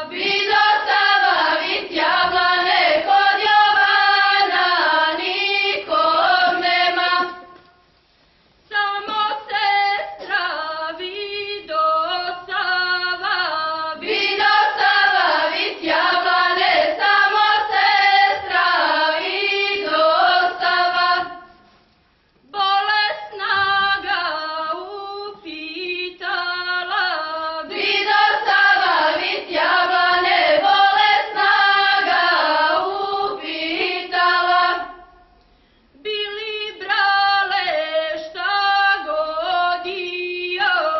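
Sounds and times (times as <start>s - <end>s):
women singing unaccompanied: 0.0s - 7.6s, 8.7s - 21.5s, 22.4s - 35.2s, 36.0s - 40.9s.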